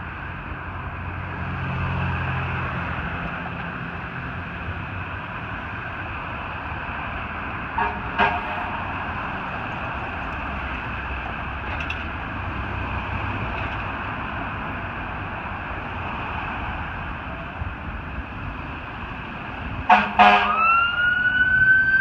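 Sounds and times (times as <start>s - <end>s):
fire engine running: 0.0s - 22.0s.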